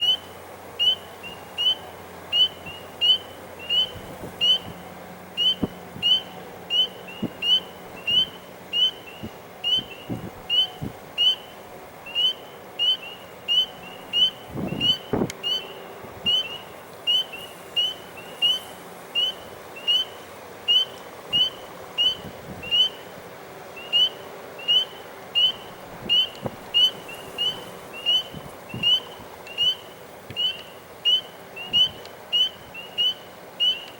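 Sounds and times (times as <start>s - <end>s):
spring peeper frog peeping: 0.0s - 4.8s, 5.4s - 11.5s, 12.1s - 23.0s, 23.8s - 29.8s, 30.4s - 33.9s.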